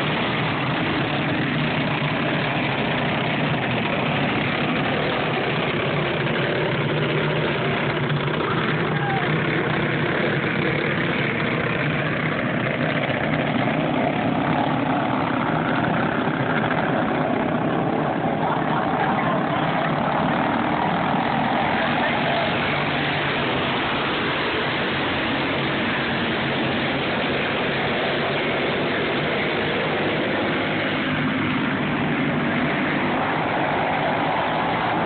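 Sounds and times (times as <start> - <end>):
go-kart engines racing: 0.0 - 35.0.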